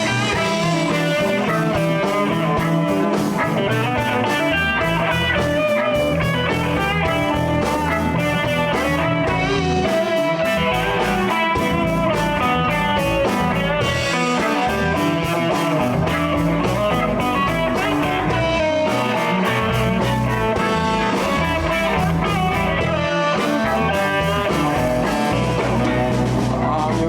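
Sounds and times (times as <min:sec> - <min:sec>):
blues band playing: 0:00.0 - 0:27.0
electric guitar: 0:00.0 - 0:27.0.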